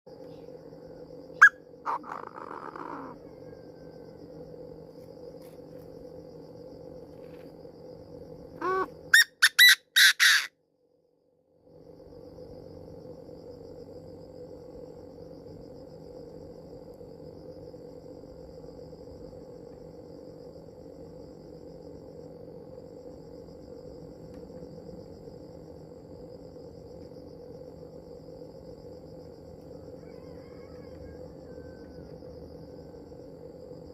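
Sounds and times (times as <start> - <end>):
faint insect-like hiss: 0.1 - 9.5, 10.6 - 33.9.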